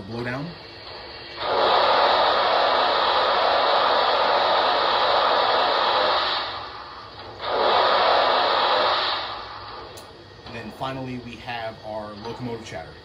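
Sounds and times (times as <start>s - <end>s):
loud steam hiss: 0.0s - 13.0s.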